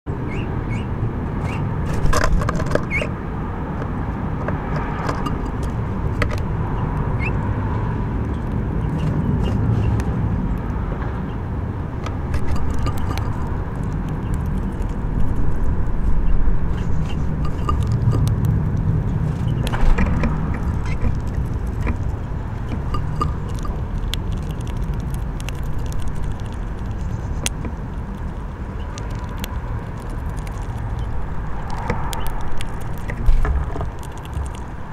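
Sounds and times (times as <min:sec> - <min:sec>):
road traffic rumble: 0:00.1 - 0:34.9.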